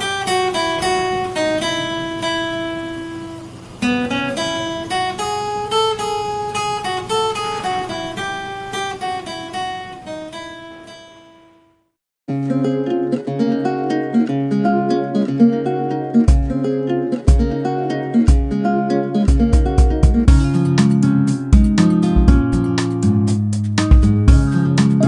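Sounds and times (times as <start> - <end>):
plucked acoustic guitar melody: 0.0 - 11.7, 12.3 - 25.0.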